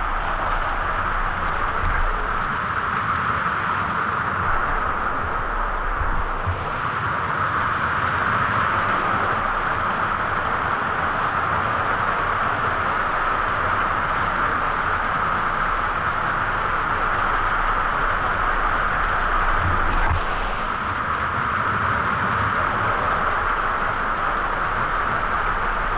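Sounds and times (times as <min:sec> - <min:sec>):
waterfall roaring: 0:00.0 - 0:07.0, 0:08.3 - 0:25.9.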